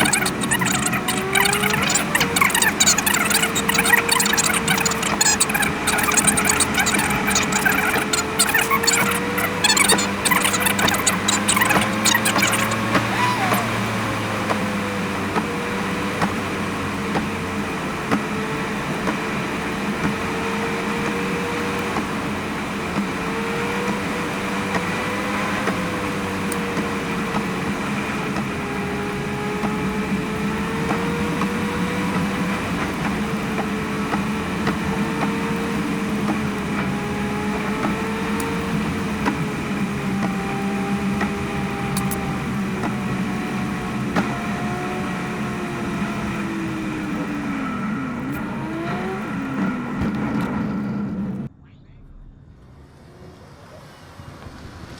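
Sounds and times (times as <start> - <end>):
car engine cruising: 0.0 - 51.5
road noise: 0.0 - 51.5.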